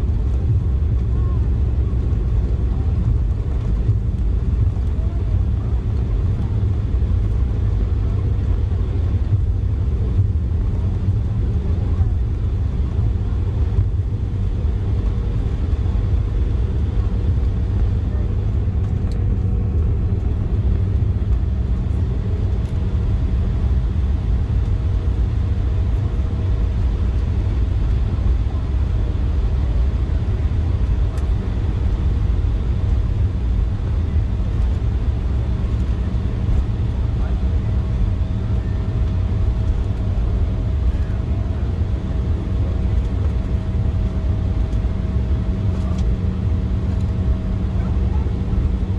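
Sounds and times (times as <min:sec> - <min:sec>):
airliner cabin engine rumble: 0:00.0 - 0:48.9
faint steady hums: 0:00.0 - 0:48.9.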